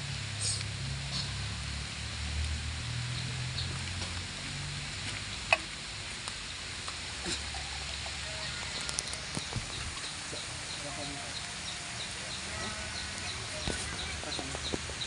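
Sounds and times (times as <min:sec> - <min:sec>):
rain patter: 0:00.0 - 0:15.0.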